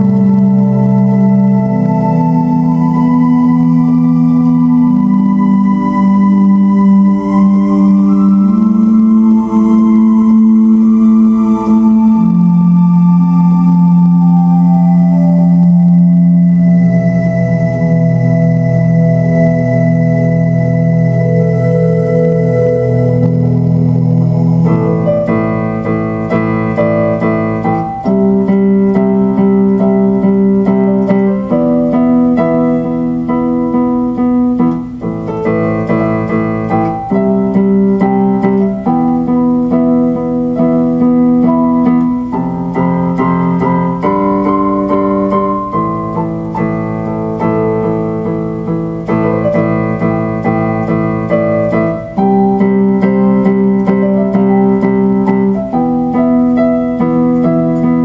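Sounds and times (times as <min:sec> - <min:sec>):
slow piano chords: 0:00.0 - 0:58.0.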